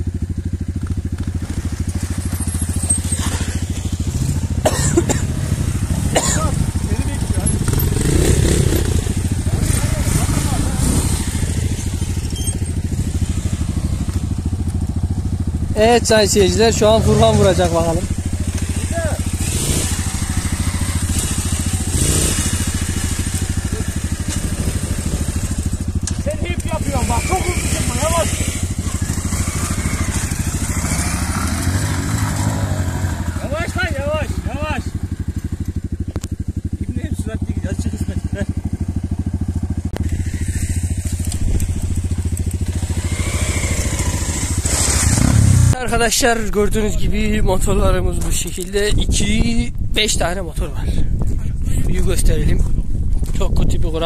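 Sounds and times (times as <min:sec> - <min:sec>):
motorcycle revving and riding off: 0:00.0 - 0:46.7
dirt bike engine puttering: 0:00.0 - 0:46.8.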